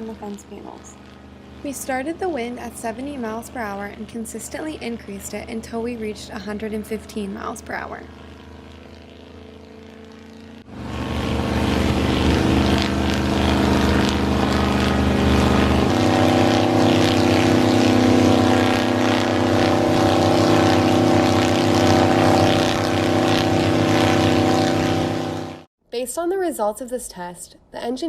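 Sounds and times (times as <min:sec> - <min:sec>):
propeller wind machines running: 0:00.0 - 0:25.7.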